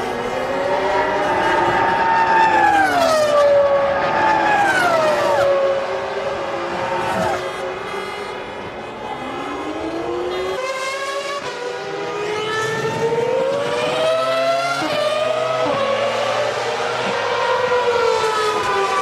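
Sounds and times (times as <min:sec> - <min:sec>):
racing car engines passing: 0:00.0 - 0:19.0.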